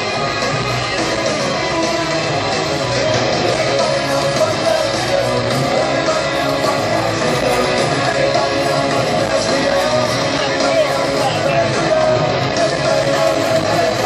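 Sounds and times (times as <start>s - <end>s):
live punk rock band: 0.0s - 14.0s.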